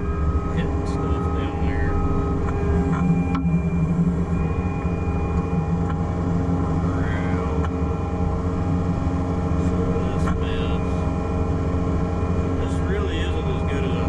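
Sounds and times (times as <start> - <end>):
diesel engine running: 0.0 - 14.0
whine rising and falling: 0.0 - 14.0.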